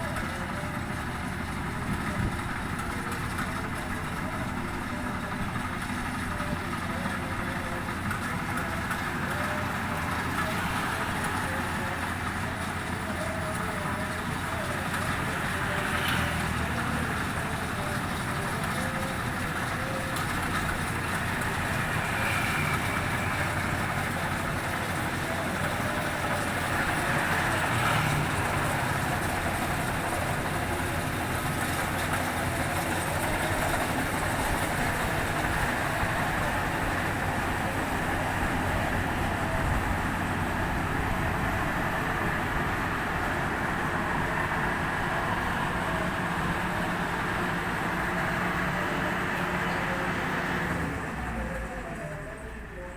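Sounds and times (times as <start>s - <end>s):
harvesting machine running: 0.0s - 52.9s.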